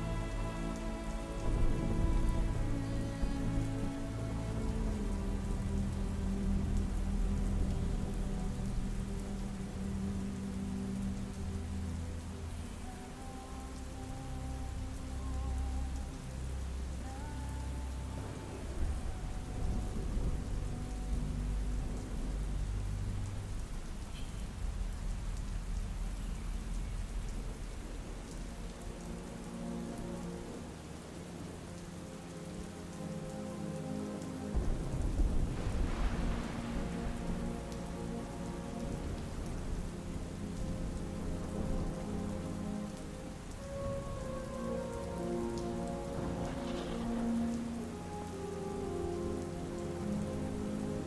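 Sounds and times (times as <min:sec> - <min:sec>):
low rumble of thunder: 0:00.0 - 0:31.6, 0:34.4 - 0:51.0
soft ambient music tones: 0:00.0 - 0:51.0
steady soft rain: 0:00.0 - 0:51.0.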